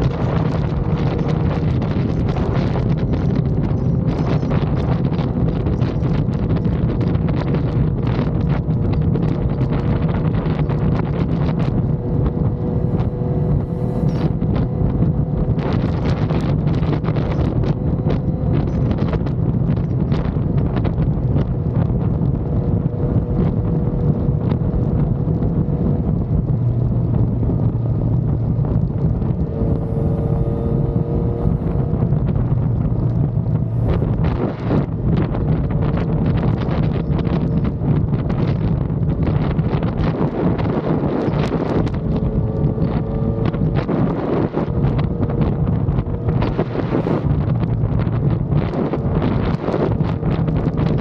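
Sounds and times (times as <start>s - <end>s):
motorcycle engine running: 0.0s - 51.0s
wind buffeting microphone: 0.0s - 51.0s.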